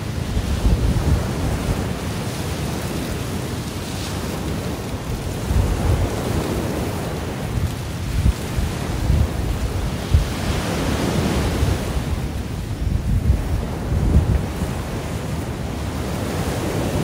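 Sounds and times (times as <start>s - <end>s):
ocean waves washing ashore: 0.0s - 17.0s
wind buffeting microphone: 0.0s - 17.0s.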